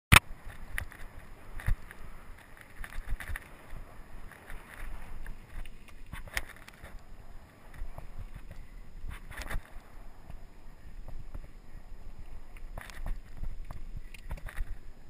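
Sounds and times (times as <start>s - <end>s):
bike knocking and rattling: 0.1s - 15.0s
bike tyres rumbling on trail: 0.2s - 15.0s
wind on microphone: 0.2s - 15.0s.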